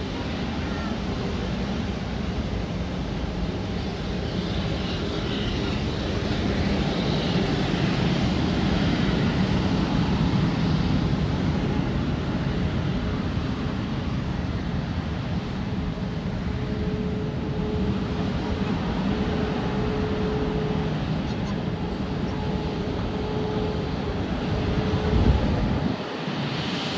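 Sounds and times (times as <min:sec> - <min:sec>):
airliner engines running: 0:00.0 - 0:26.9.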